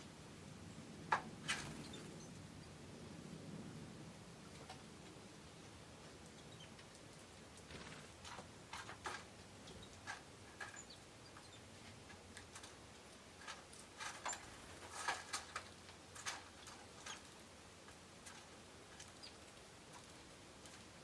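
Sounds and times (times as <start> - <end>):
birds ticking and chipping: 0.0 - 3.0, 3.7 - 21.0.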